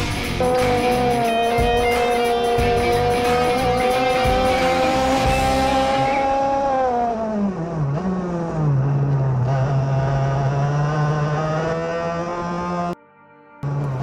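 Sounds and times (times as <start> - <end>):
kart engine buzzing: 0.0 - 13.0.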